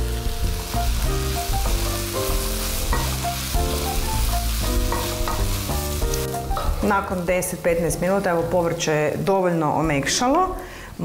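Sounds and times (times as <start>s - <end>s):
vegetables sizzling in hot oil: 0.0s - 9.3s
background music: 0.0s - 10.4s.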